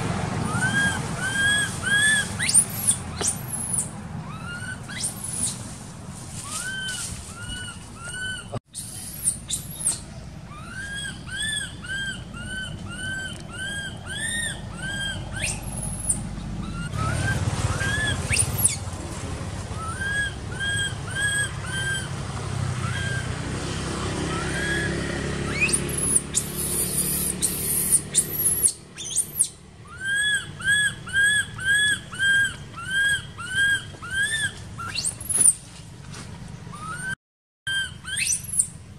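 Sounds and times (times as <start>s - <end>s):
baby monkey squealing: 0.4s - 5.6s, 6.4s - 18.9s, 19.8s - 22.1s, 22.8s - 23.3s, 24.2s - 35.6s, 36.7s - 38.8s.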